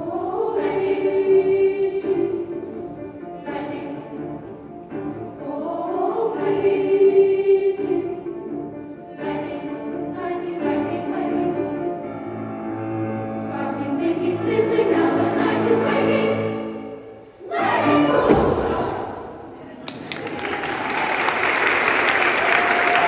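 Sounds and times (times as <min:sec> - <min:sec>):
children's choir singing: 0:00.0 - 0:19.5.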